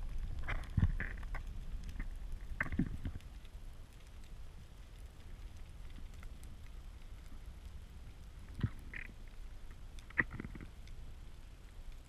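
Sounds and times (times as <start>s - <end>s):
low underwater rumble: 0.0s - 12.0s.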